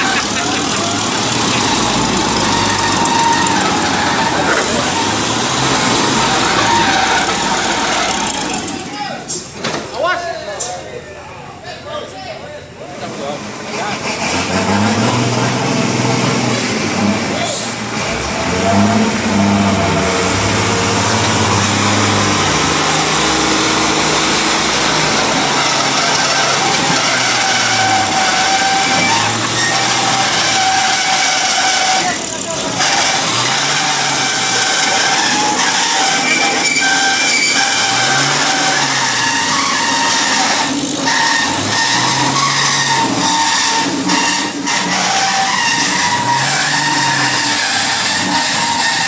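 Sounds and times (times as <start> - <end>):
truck engine droning: 0.0 - 11.7, 12.7 - 49.0
road traffic: 0.0 - 49.0.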